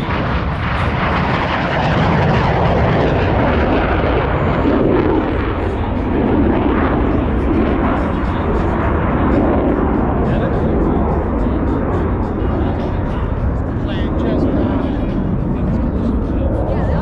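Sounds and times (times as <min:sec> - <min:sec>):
fighter jet noise: 0:00.0 - 0:17.0.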